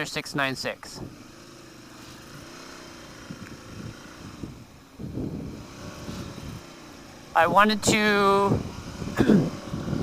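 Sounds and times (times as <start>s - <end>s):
motorcycle engine revving: 0.8s - 10.0s.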